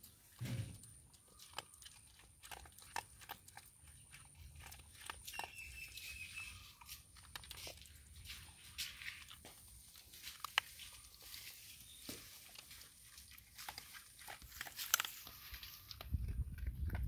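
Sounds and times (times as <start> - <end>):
puppy chewing dry kibble: 0.0 - 17.0.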